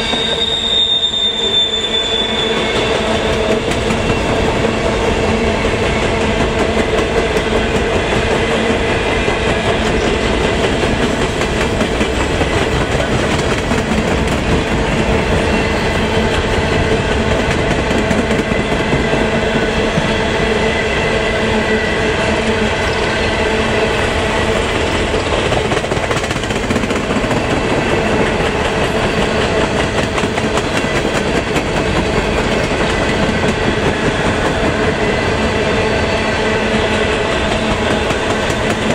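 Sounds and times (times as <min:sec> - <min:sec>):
train cars rolling on rails: 0:00.0 - 0:38.9.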